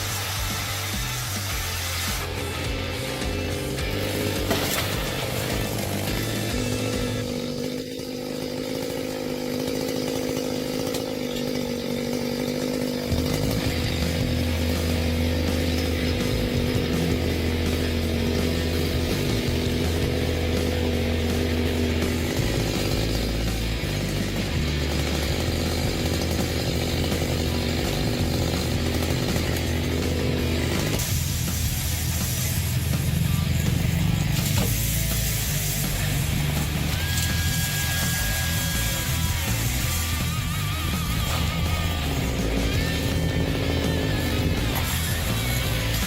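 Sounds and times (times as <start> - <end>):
chainsaw engine running: 0.0 - 46.0.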